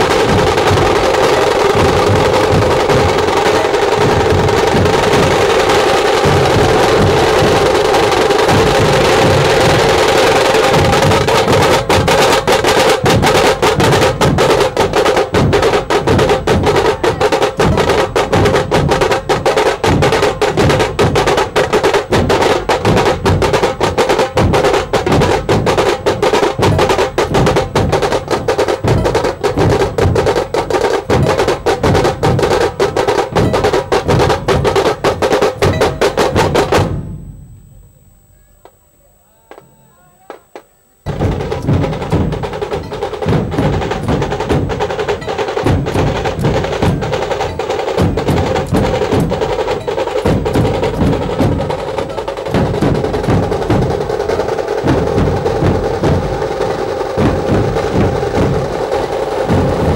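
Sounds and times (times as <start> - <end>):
large barrel drums playing: 0.0 - 38.8, 39.5 - 59.9.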